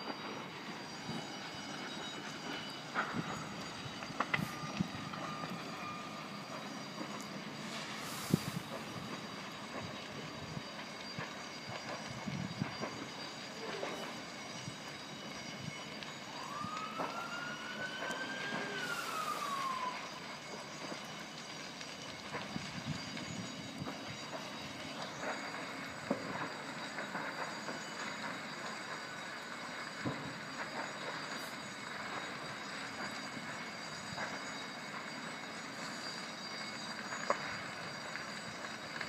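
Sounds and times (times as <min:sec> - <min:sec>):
siren wailing: 0:00.0 - 0:39.0.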